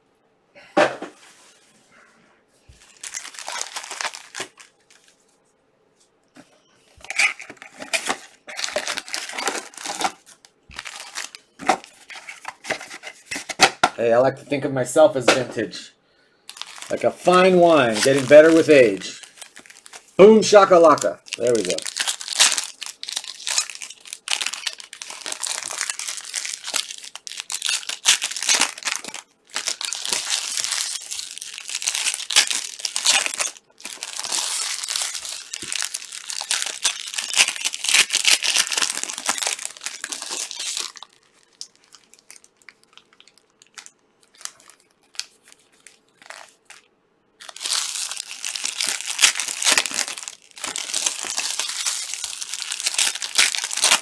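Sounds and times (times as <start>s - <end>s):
plastic wrappers crinkling: 2.7s - 5.3s, 6.4s - 14.0s, 16.5s - 54.0s.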